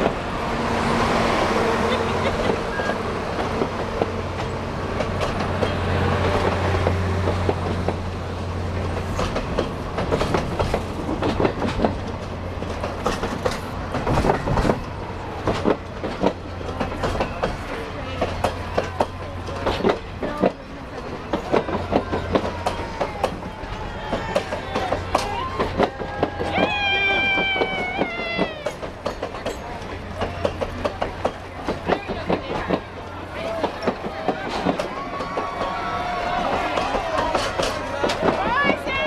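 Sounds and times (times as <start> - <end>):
train cars rolling past: 0.0 - 39.0
wheels clacking over rail joints: 0.0 - 39.0.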